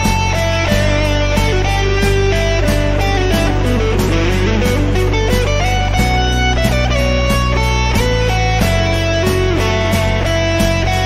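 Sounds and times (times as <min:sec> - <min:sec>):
melody over low bass: 0:00.0 - 0:11.0.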